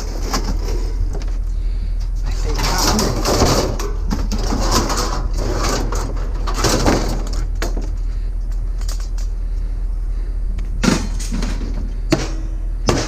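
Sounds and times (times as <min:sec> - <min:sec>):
metal parts clattering and scraping: 0:00.0 - 0:01.4, 0:02.2 - 0:09.4, 0:10.8 - 0:13.0
steady low hum: 0:00.0 - 0:13.0.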